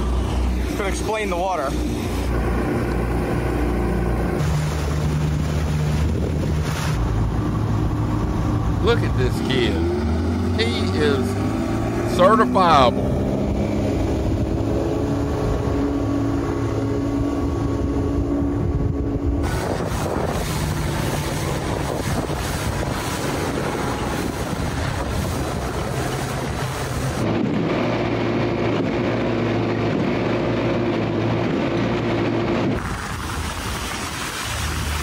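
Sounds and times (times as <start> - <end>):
outboard motors running: 0.0 - 35.0
water noise: 0.0 - 35.0
wind on microphone: 0.0 - 35.0.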